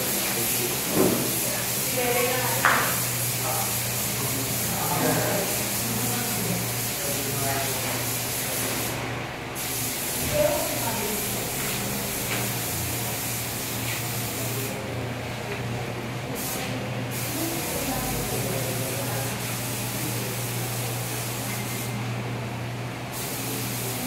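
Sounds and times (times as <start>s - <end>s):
paint spray gun hissing: 0.0s - 9.0s, 9.6s - 14.8s, 16.4s - 22.0s, 23.1s - 24.0s.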